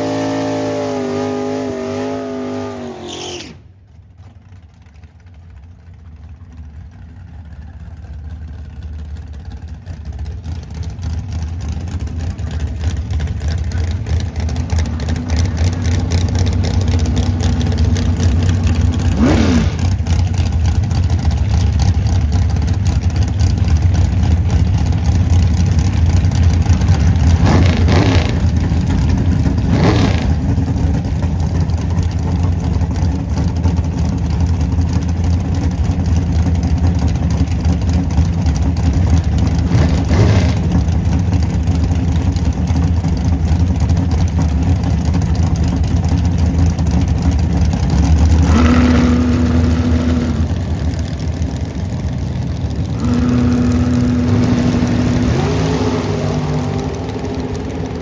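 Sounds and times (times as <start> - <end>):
race car engine revving: 0.0 - 3.7, 11.0 - 58.0
deep engine rumble: 0.0 - 58.0.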